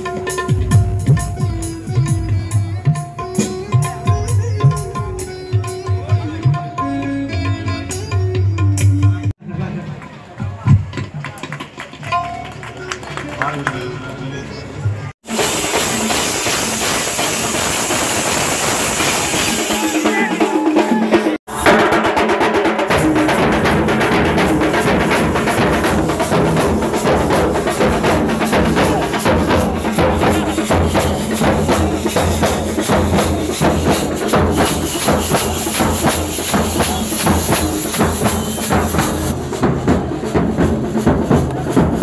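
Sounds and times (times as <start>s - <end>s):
loud drum-driven music: 0.0s - 9.4s, 15.2s - 42.0s.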